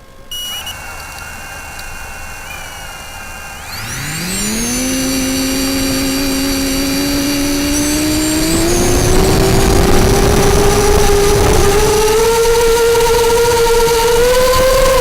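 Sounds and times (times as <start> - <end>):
quadcopter motors spooling up: 0.0 - 15.0.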